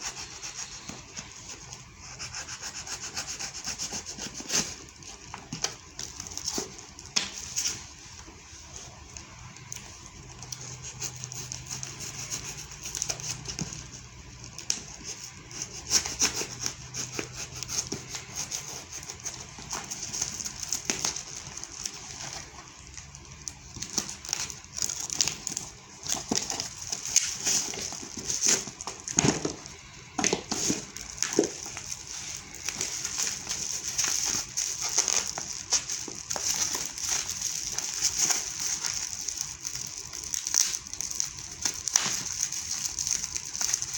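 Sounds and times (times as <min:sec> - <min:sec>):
packaging crinkling and tearing: 0:02.9 - 0:43.9.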